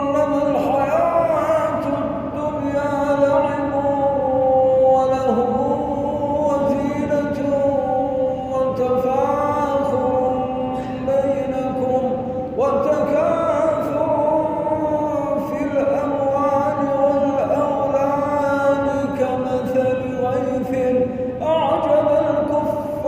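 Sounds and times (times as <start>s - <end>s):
man chanting melodic recitation: 0.0s - 23.0s.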